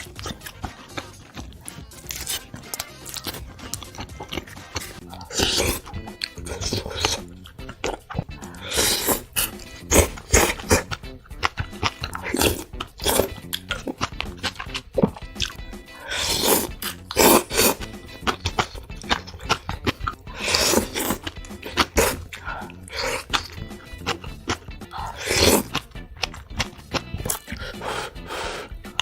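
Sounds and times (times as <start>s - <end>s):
background music: 0.0s - 29.0s
chewing and crunching food: 0.0s - 29.0s.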